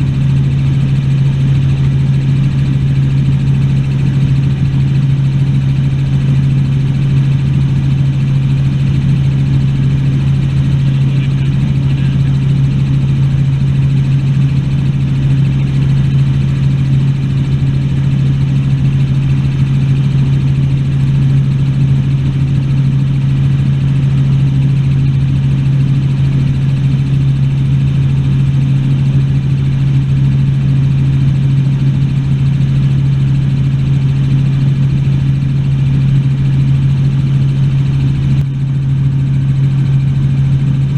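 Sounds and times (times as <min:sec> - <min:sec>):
helicopter drone: 0:00.0 - 0:40.9.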